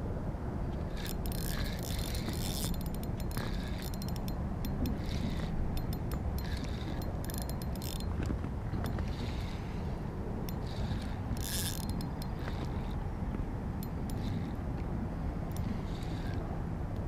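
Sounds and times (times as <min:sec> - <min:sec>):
steady low rumble: 0:00.0 - 0:17.0
fishing reel ticking: 0:00.7 - 0:13.2, 0:13.8 - 0:17.0.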